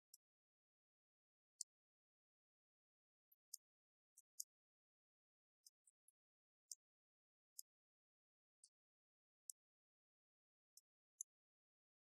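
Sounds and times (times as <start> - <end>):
faint high-pitched ticks: 0.0 - 12.0.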